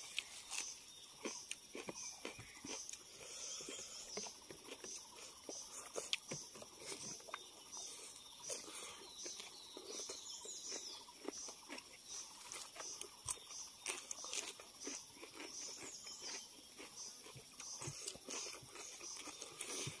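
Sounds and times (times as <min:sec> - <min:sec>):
pulsing insect chorus: 0:00.0 - 0:20.0.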